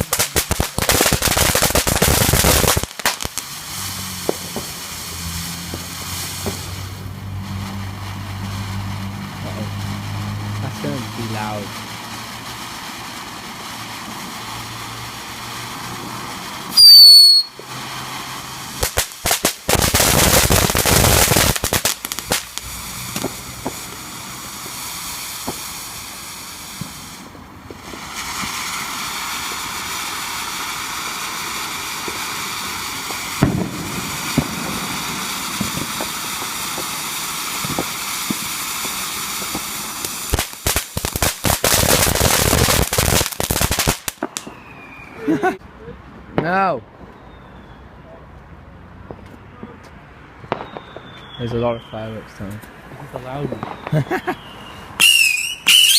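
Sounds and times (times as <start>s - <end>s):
falling firework whistle: 0.0s - 45.5s, 47.0s - 47.9s, 50.4s - 52.4s, 53.2s - 55.9s
fireworks bangs: 0.0s - 45.6s, 49.0s - 55.9s
fireworks crackling: 0.0s - 47.6s, 48.8s - 55.9s.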